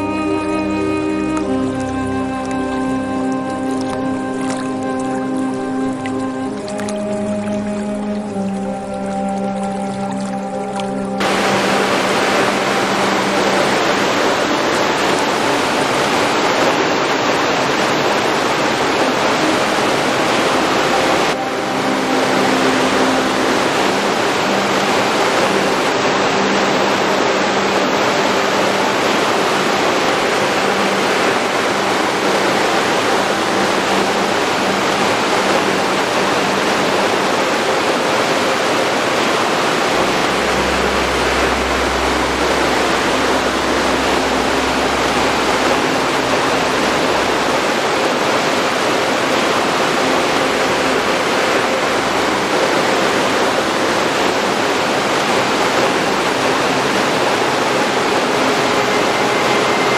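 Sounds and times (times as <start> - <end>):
waterfall rushing onto rock: 11.2 - 59.9.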